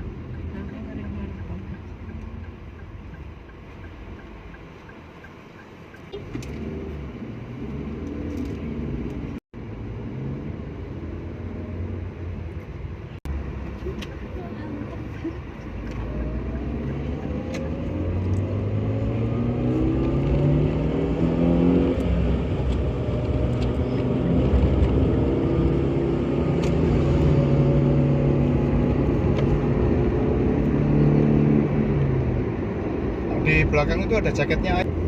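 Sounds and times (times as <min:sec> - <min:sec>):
car engine from inside cabin: 0:00.0 - 0:35.0
road rumble: 0:00.0 - 0:35.0.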